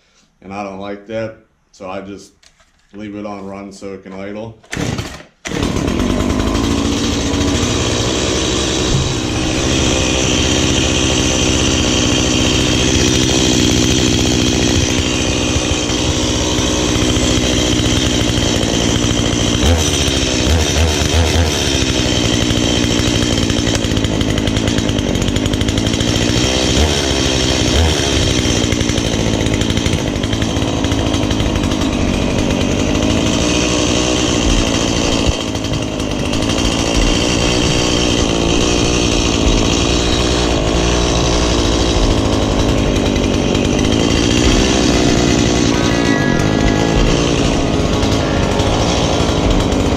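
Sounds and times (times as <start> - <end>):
chainsaw idling: 4.7 - 49.9.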